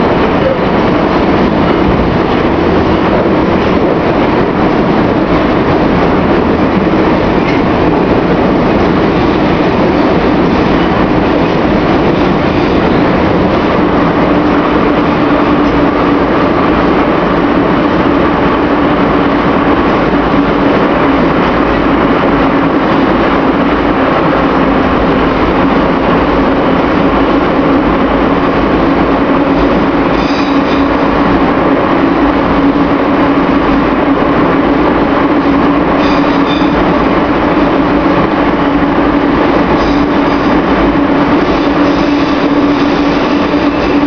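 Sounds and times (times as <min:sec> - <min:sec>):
metro wheels rumbling on rail: 0:00.0 - 0:44.0
steady hum: 0:00.0 - 0:44.0.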